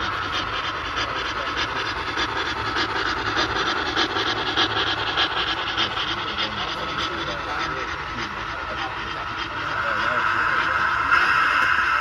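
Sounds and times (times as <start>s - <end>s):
low hum: 0.0s - 12.0s
model trains rumbling: 0.0s - 12.0s.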